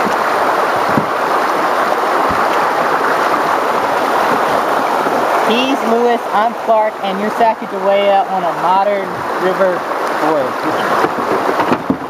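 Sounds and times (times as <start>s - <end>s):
river rapids rushing over rocks: 0.0s - 12.0s.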